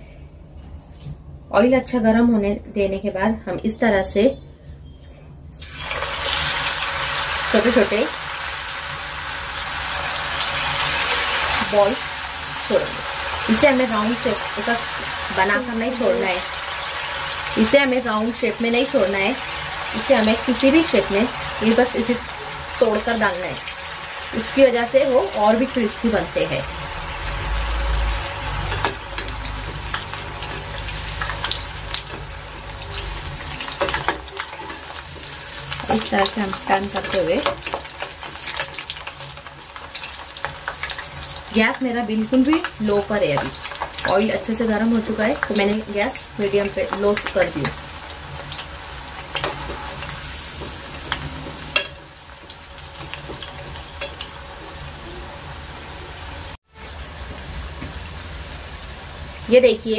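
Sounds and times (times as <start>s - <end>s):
batter sizzling in hot oil: 5.6s - 59.9s.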